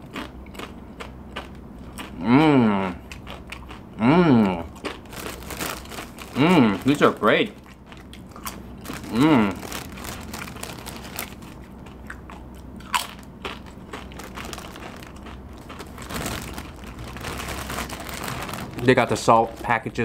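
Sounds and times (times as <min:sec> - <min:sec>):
crunchy chips being chewed: 0:00.0 - 0:19.7.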